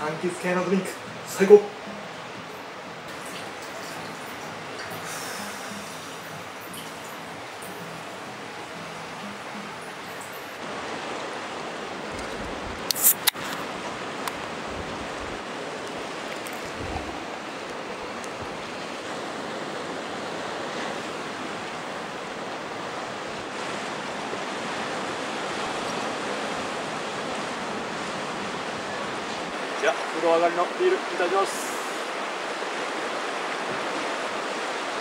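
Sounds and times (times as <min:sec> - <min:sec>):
sea waves washing: 0:00.0 - 0:35.0.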